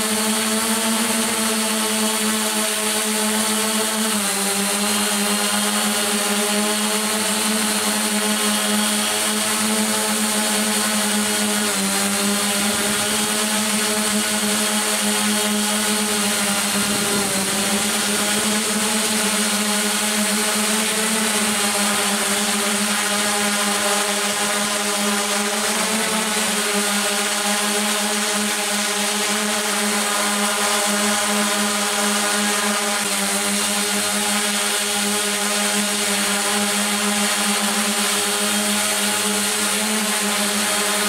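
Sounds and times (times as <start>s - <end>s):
drone motors humming: 0.0s - 41.0s.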